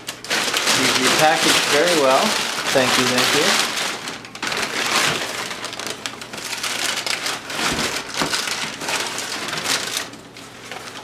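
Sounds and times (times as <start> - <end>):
packing material rustling and crinkling: 0.0 - 11.0.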